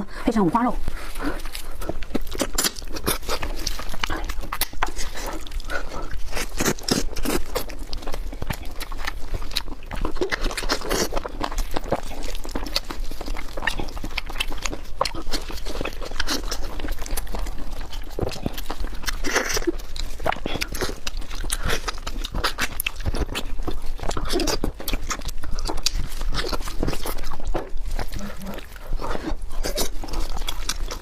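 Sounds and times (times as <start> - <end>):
food being chewed: 0.8 - 31.0.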